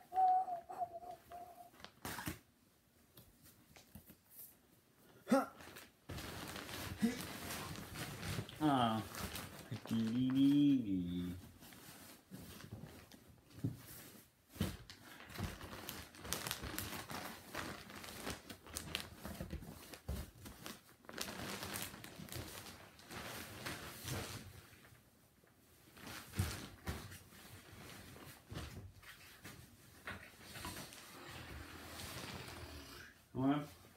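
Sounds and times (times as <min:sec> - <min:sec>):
rustling and crinkling: 0:05.6 - 0:32.8.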